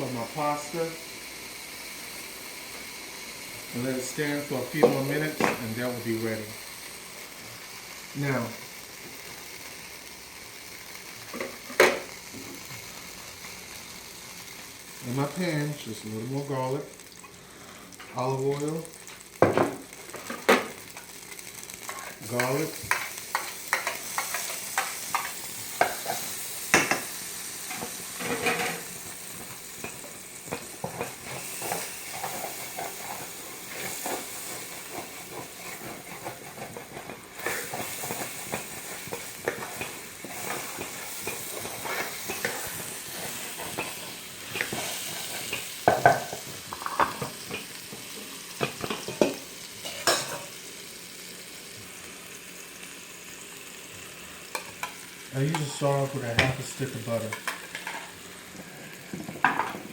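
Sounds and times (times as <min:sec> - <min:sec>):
garlic sizzling in oil: 0:00.0 - 0:59.9.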